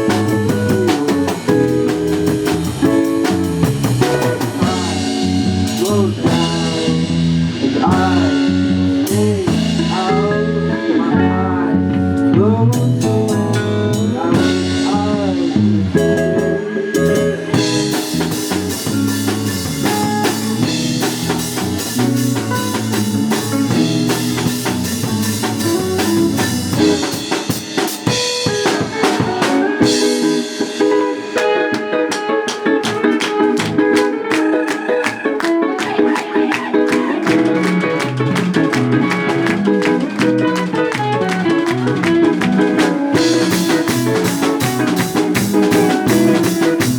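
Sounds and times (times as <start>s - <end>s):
drums hitting steadily: 0.0s - 10.2s, 12.4s - 35.2s, 35.8s - 46.9s
live band playing: 0.0s - 46.9s.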